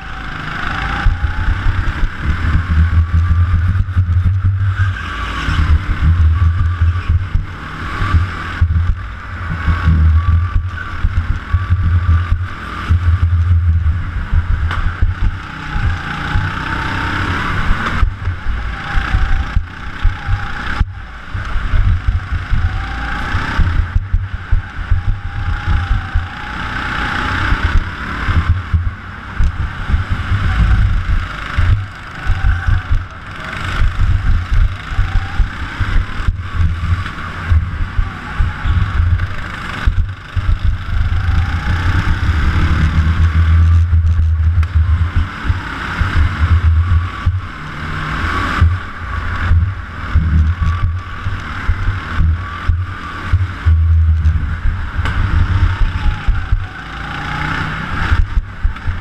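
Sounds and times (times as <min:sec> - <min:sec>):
go-kart engine rumble: 0:00.0 - 0:59.0
thin engine whine: 0:00.0 - 0:59.0.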